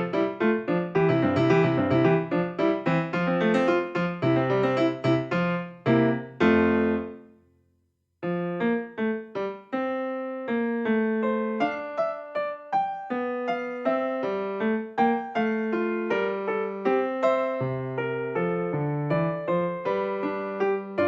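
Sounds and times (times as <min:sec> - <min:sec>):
piano music: 0:00.0 - 0:07.4, 0:08.2 - 0:21.0.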